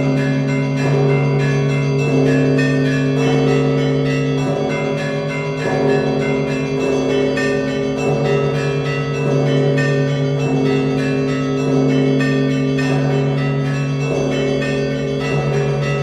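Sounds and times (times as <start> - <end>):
large bell low tone: 0.0 - 16.0
small bells ringing rapidly: 0.0 - 16.0.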